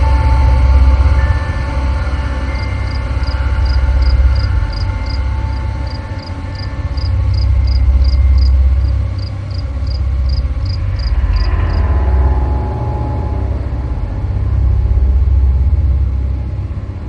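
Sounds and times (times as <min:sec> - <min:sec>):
insect chirping: 0:00.0 - 0:16.4
heavy low rumble: 0:00.0 - 0:17.0.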